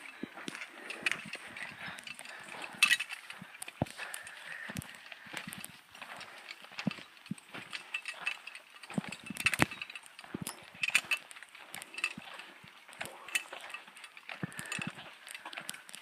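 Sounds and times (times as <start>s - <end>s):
footsteps on dirt trail: 0.0s - 16.0s
metal harness hardware clinking: 0.0s - 16.0s.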